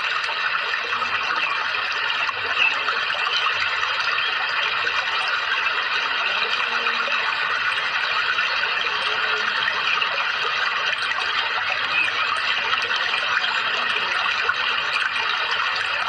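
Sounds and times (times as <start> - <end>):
running water splashing: 0.0 - 16.0.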